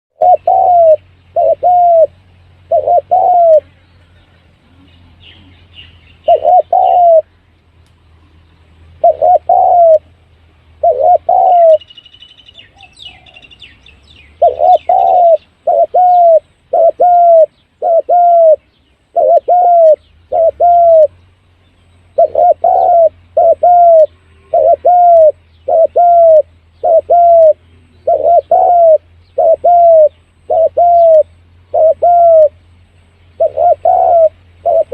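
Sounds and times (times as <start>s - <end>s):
dove cooing: 0.1s - 7.3s, 9.0s - 10.1s, 10.8s - 11.9s, 12.6s - 13.6s, 14.2s - 21.2s, 22.2s - 32.6s, 33.4s - 34.9s
bird chirping: 0.1s - 34.9s
low steady hum: 0.1s - 34.9s.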